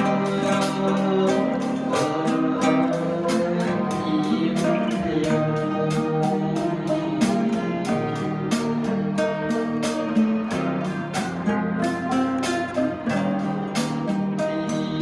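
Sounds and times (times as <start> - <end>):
traditional string ensemble music: 0.0 - 15.0.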